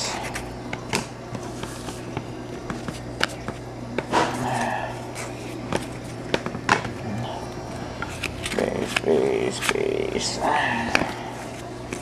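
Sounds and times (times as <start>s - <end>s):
cards rustling: 0.1s - 12.0s.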